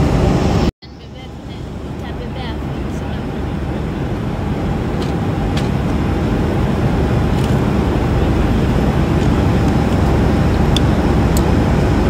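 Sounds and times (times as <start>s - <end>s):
airliner cabin roar: 0.0s - 12.0s.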